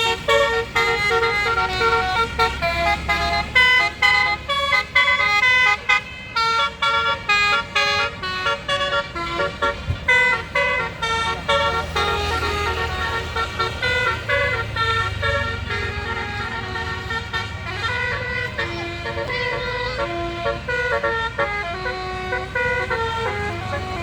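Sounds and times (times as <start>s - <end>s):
bus engine humming: 0.0s - 24.0s
bus horn playing a melody: 0.0s - 24.0s.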